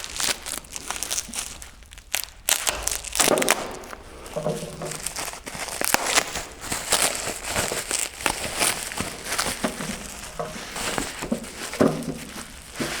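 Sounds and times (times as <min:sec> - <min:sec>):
packaging crinkling: 0:00.0 - 0:13.0
packaging tearing: 0:00.0 - 0:13.0.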